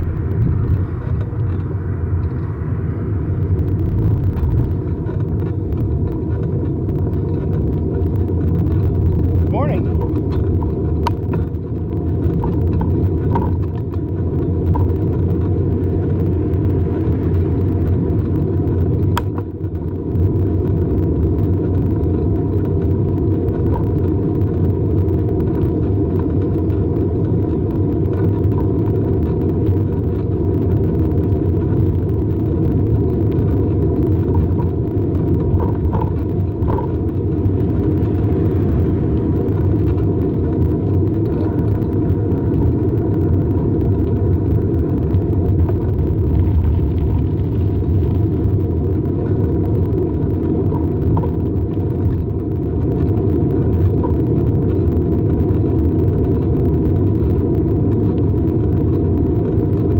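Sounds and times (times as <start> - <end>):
bicycle tyres rolling on asphalt: 0.0 - 59.9
wind on microphone: 0.0 - 59.9.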